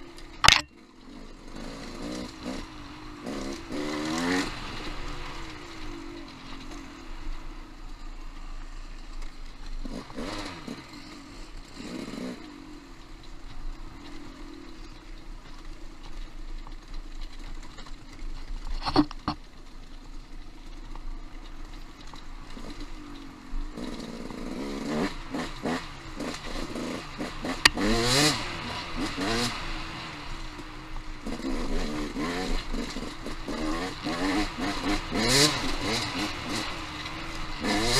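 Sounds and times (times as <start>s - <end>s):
motorcycle engine revving: 0.0s - 19.4s, 20.2s - 37.9s.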